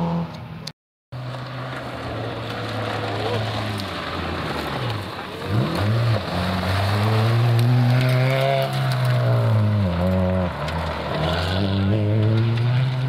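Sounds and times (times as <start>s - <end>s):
rally car engine at high revs: 1.3s - 13.0s.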